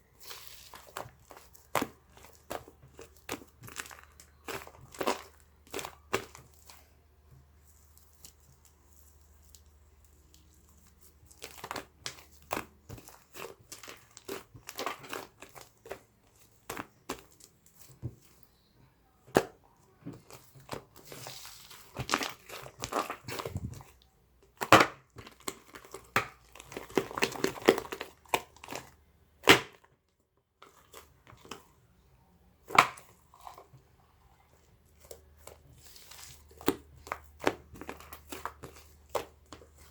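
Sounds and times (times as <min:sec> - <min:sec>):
crinkling and crackling: 0:00.0 - 0:39.9.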